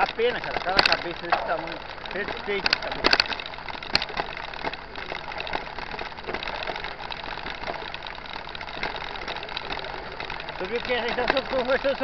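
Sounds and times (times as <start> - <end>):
bike tyres crunching on gravel: 0.0 - 12.0.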